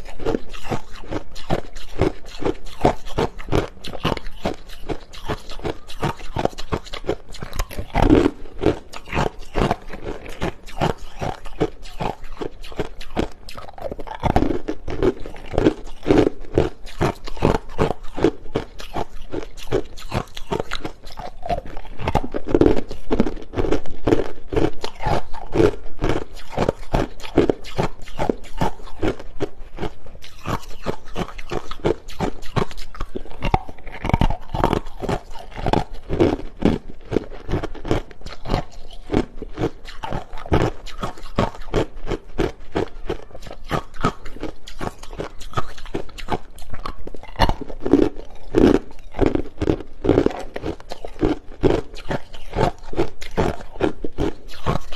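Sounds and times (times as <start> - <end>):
person chewing crushed ice: 0.0 - 54.9.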